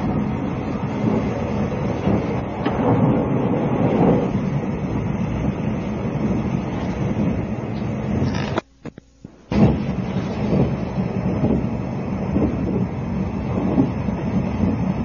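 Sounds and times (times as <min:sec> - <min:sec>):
train wheels rumbling on rail: 0:00.0 - 0:08.6, 0:09.5 - 0:15.0.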